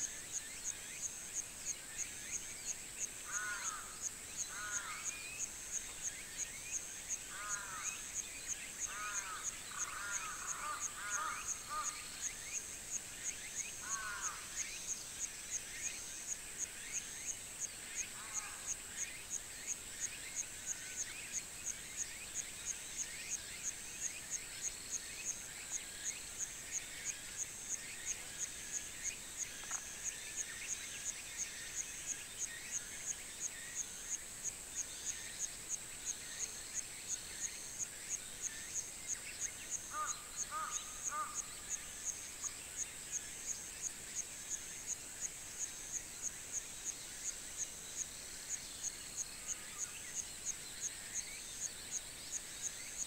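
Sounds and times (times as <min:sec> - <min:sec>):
insect chirring: 0:00.0 - 0:53.0
small birds calling and twittering: 0:00.0 - 0:53.0.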